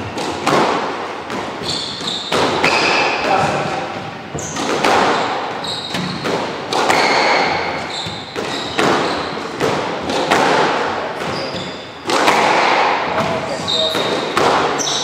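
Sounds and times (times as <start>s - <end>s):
sneakers squeaking on wooden floor: 0.0s - 15.0s
squash ball cracking off rackets: 0.1s - 13.3s, 13.9s - 15.0s.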